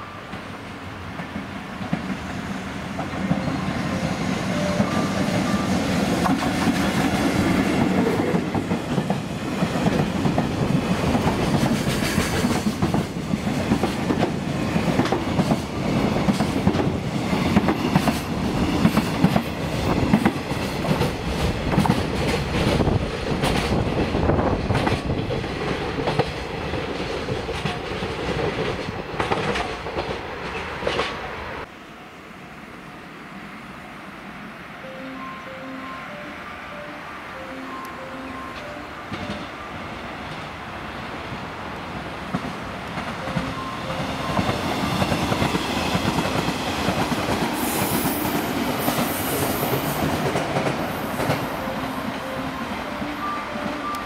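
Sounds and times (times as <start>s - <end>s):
electric locomotive running: 0.2s - 31.0s, 34.2s - 54.0s.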